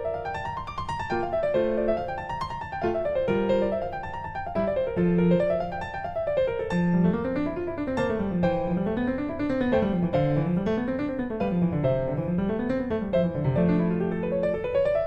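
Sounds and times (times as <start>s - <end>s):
piano music with arpeggios: 0.0s - 15.0s.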